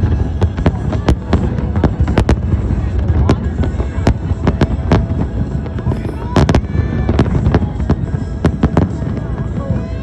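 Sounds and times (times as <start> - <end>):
fireworks bangs: 0.6 - 8.9.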